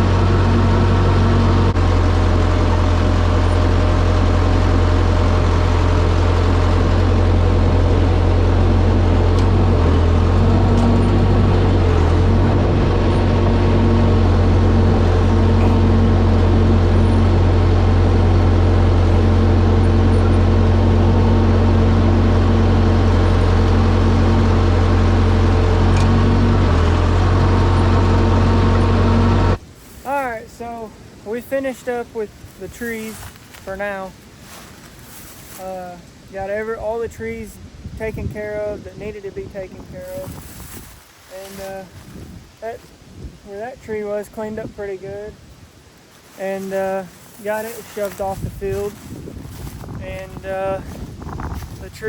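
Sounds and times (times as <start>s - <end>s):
bulldozer diesel engine drone: 0.0s - 52.0s.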